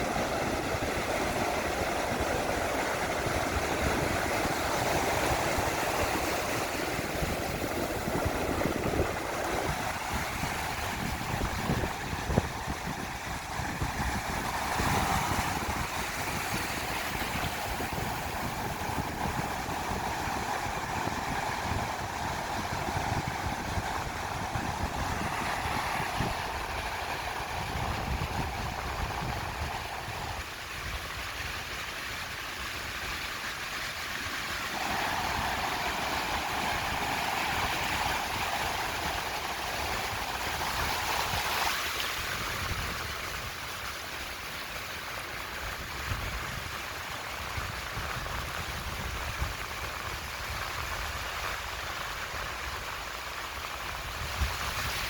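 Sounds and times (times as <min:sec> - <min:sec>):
sea surf washing onto beach: 0:00.0 - 0:55.0.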